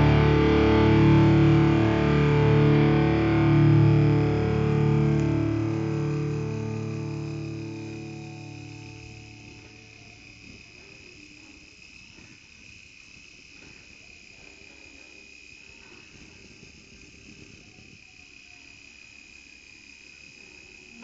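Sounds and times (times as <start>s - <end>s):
crickets trilling: 2.7s - 21.0s.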